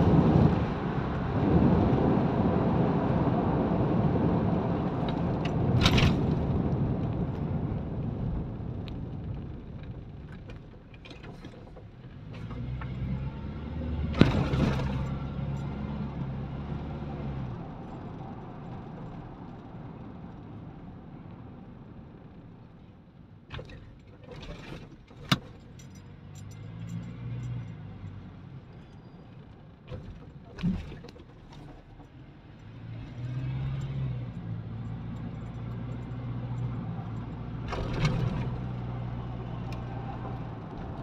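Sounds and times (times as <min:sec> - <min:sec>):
engine hum: 0:00.0 - 0:41.0
tyre and wind road noise: 0:00.0 - 0:41.0.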